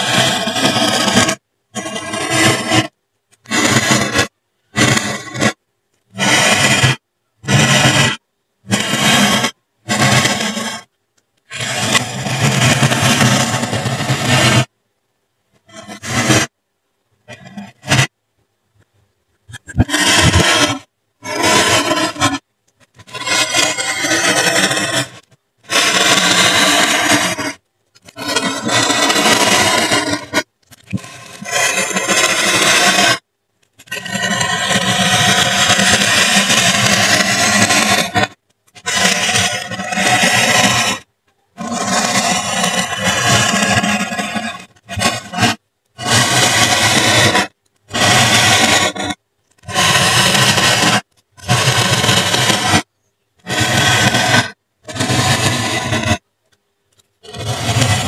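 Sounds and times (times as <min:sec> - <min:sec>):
metal tip scraping foam: 0:00.0 - 0:14.7, 0:15.6 - 0:16.6, 0:17.2 - 0:18.2, 0:19.3 - 0:58.0.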